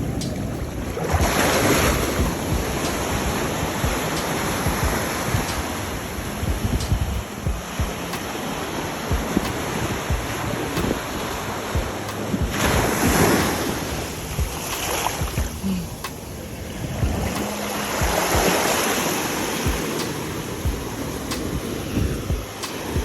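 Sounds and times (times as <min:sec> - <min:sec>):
ocean water rushing: 0:00.0 - 0:23.0
wind buffeting microphone: 0:00.0 - 0:23.0.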